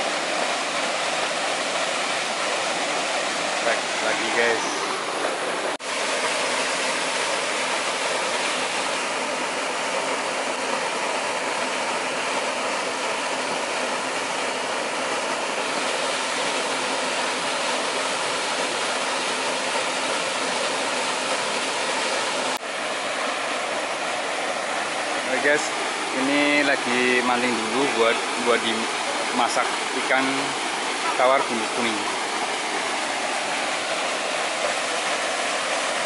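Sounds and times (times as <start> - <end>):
waterfall rushing water: 0.0 - 36.0.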